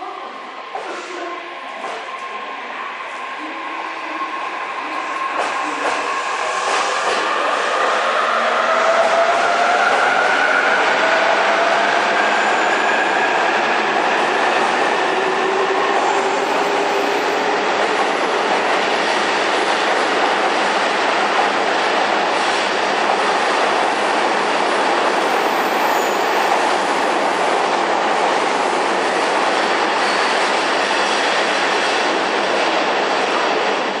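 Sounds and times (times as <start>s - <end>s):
electric train wheels on rails: 5.2s - 33.7s.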